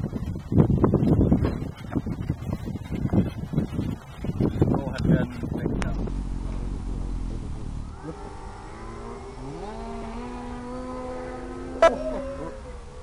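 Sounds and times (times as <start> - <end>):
electric motor and propeller whine: 2.5 - 13.0.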